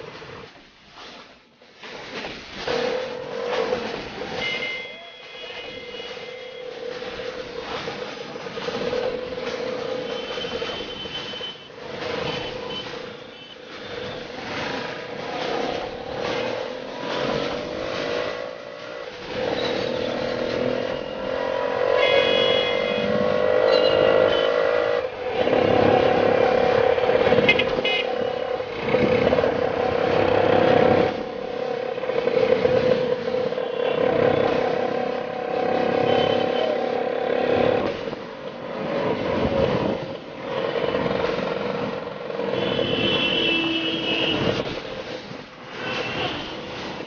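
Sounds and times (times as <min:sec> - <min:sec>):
motorcycles passing: 0:02.6 - 0:47.0
auto-rickshaw engine running: 0:02.7 - 0:47.0.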